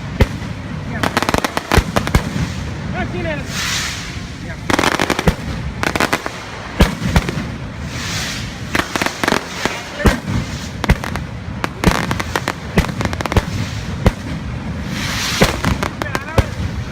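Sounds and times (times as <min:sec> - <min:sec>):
fireworks bangs: 0:00.0 - 0:16.9.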